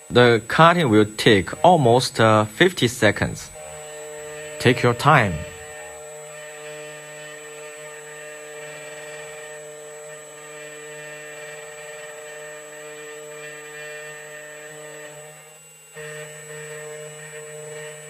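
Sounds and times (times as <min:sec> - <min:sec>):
key cutting machine milling: 0:00.0 - 0:14.9.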